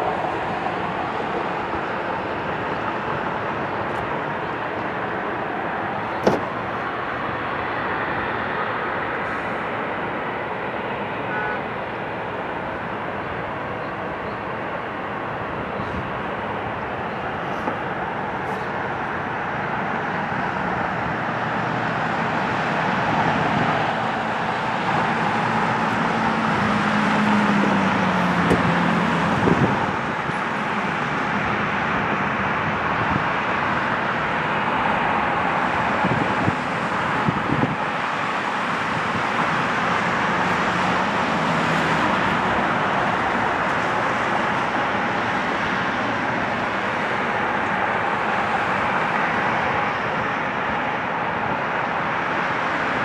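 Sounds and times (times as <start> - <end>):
distant jet engines: 0.0 - 53.0
traffic noise: 0.0 - 53.0.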